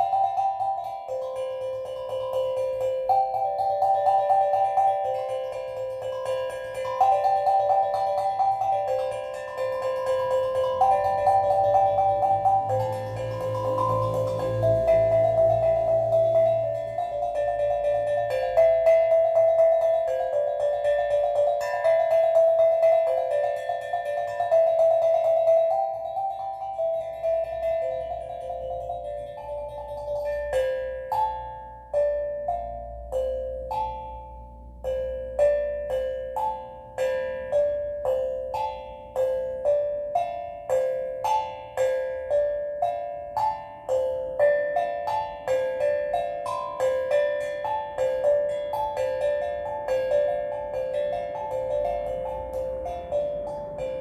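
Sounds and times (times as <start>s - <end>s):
steel drum melody: 0.0s - 54.0s.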